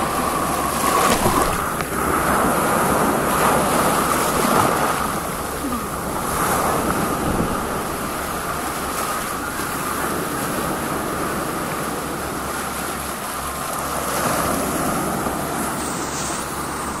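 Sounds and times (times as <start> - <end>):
small waves on pebbly shore: 0.0 - 17.0.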